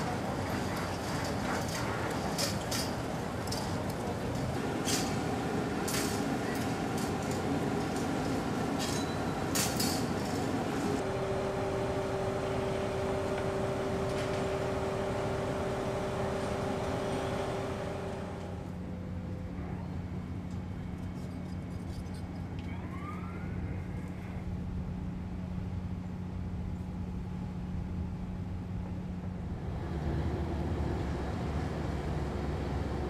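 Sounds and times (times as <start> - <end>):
ship machinery hum: 0.0 - 22.6, 23.5 - 33.0.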